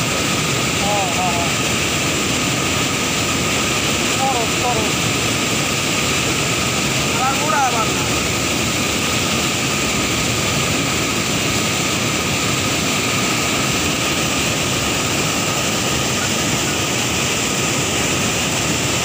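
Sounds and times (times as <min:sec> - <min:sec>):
white water rushing: 0:00.0 - 0:19.0.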